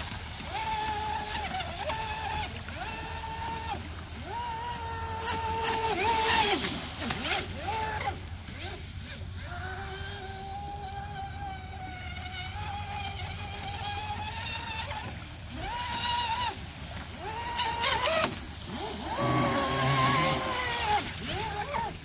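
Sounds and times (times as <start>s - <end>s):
rc boat motor whining: 0.0s - 22.0s.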